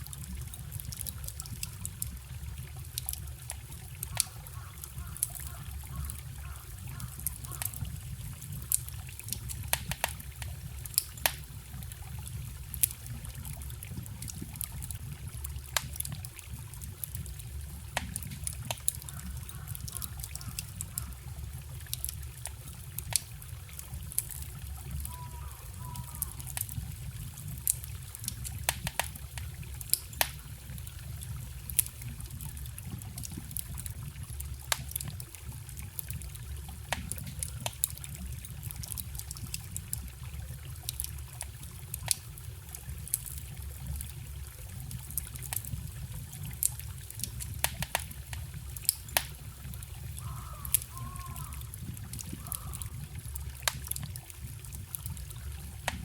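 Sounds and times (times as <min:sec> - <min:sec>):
small stream trickling: 0:00.0 - 0:56.0
wood fire crackling and popping: 0:00.0 - 0:56.0.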